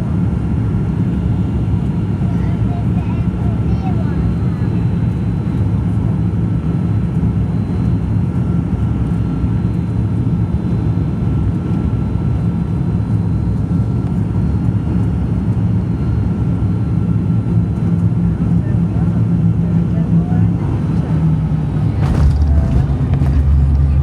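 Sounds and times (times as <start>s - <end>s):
airliner engines rumbling: 0.0s - 24.0s.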